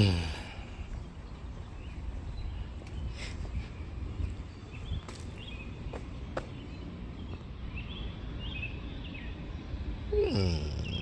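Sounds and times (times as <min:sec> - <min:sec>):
bird chirps: 0:00.6 - 0:11.0.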